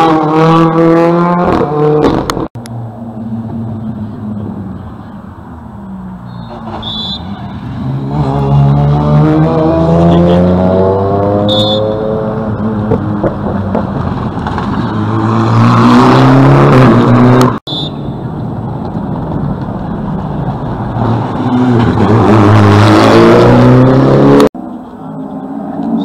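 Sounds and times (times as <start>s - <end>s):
rally cars at full throttle: 0.0s - 26.0s.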